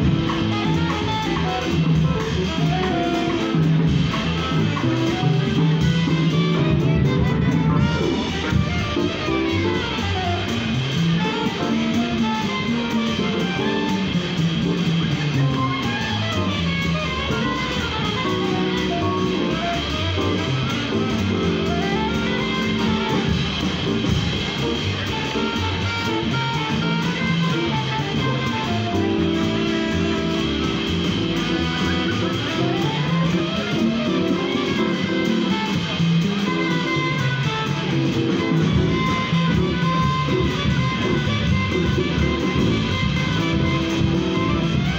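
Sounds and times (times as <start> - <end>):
drum kit cymbals: 0.0 - 44.9
electric keyboard: 0.0 - 44.9
saxophone: 0.0 - 44.9
upright bass walking: 0.0 - 44.9.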